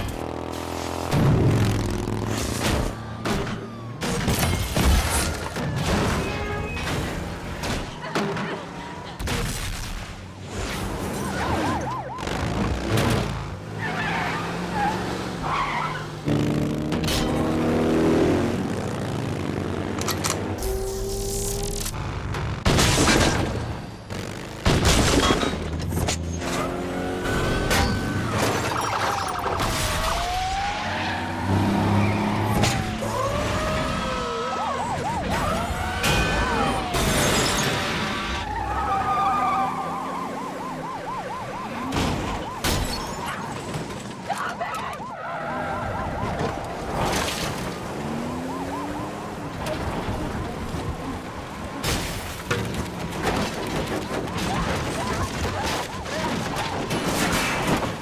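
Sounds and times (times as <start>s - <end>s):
engines: 0.0s - 58.0s
police sirens wailing: 0.1s - 9.3s, 10.0s - 22.6s, 25.3s - 58.0s.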